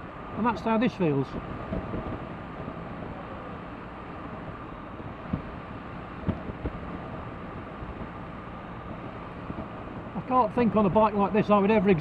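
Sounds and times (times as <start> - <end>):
wind rush: 1.2 - 11.1.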